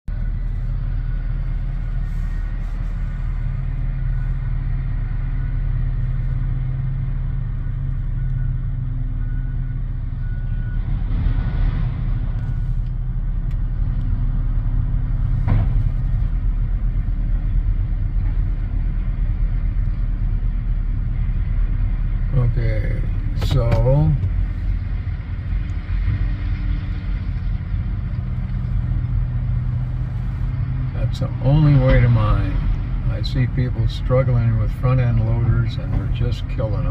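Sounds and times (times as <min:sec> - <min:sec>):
heavy diesel machinery rumbling: 0:00.0 - 0:36.9.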